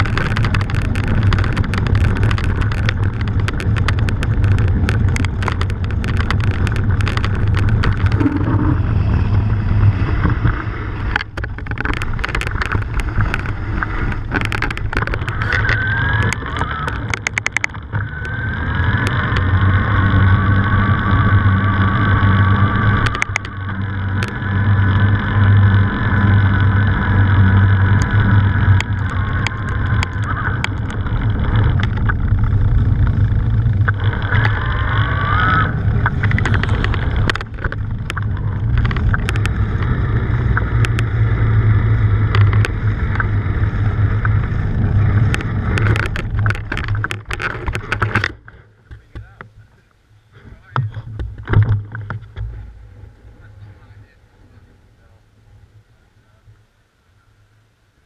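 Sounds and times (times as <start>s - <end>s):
clicks and rattles from bumps: 0.0s - 52.6s
wind rumbling on microphone: 0.0s - 57.2s
bike rolling on tarmac: 0.0s - 58.0s.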